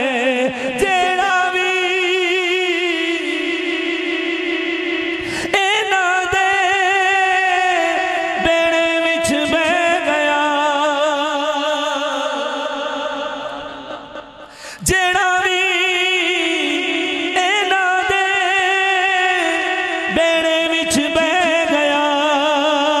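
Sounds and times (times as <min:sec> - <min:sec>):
man singing with vibrato: 0:00.0 - 0:23.0.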